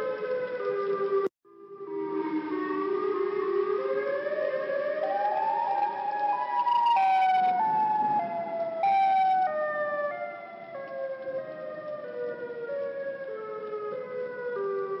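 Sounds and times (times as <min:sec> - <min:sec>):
siren stepping down in pitch: 0:00.0 - 0:15.0.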